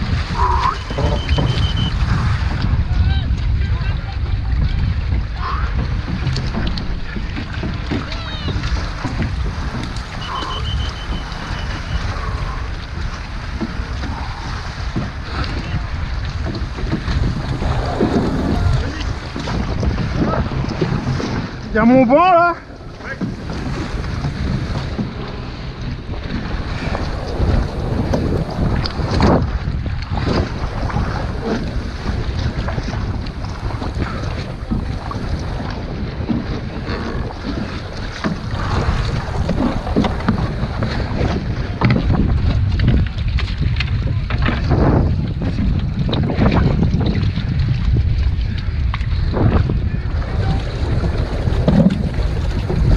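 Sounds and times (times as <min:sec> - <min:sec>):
water slapping against boat hull: 0:00.0 - 0:52.9
wind buffeting microphone: 0:00.0 - 0:52.9.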